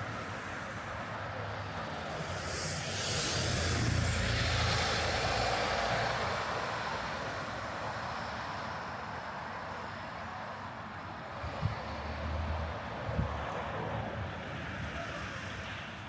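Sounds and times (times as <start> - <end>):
background traffic: 0.0 - 16.0.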